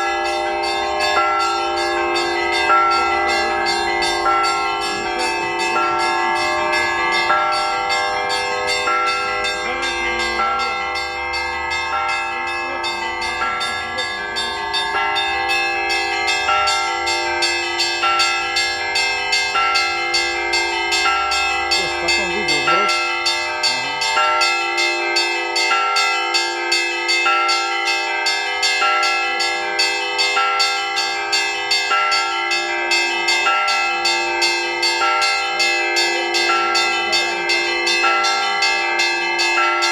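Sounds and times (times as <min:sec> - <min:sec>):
church bells ringing a peal: 0:00.0 - 0:39.9
hum of large bells: 0:00.0 - 0:39.9.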